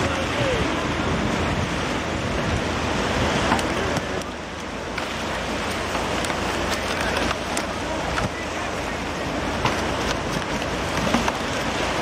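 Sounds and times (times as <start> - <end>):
surf breaking on beach: 0.0 - 12.0
wind: 0.0 - 12.0.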